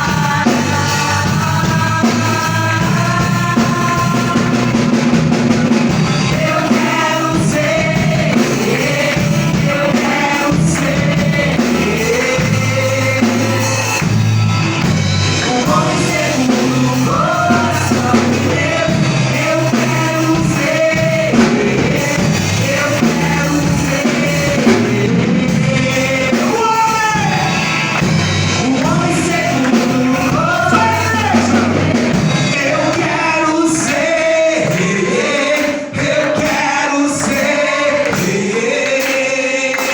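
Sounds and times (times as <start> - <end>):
band singing with bass and drums: 0.0 - 39.9.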